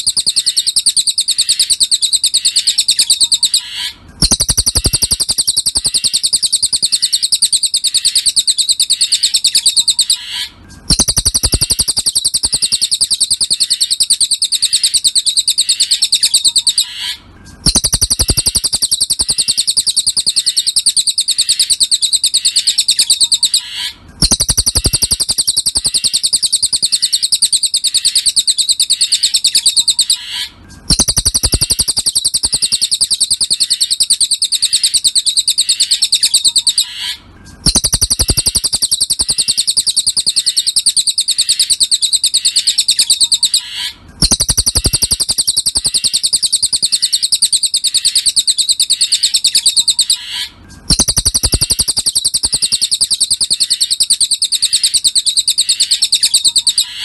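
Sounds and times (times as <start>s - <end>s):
rapid high-pitched bird trill: 0.0s - 57.0s.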